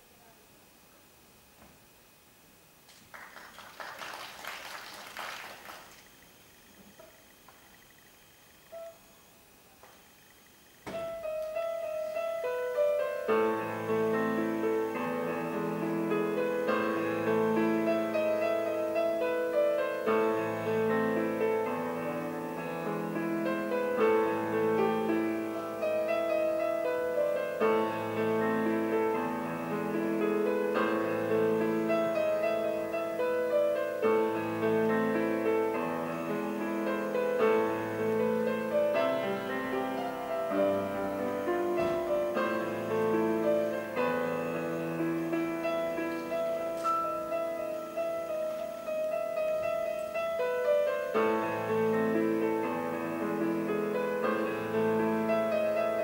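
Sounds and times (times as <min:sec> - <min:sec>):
grand piano playing: 0:11.0 - 0:56.0.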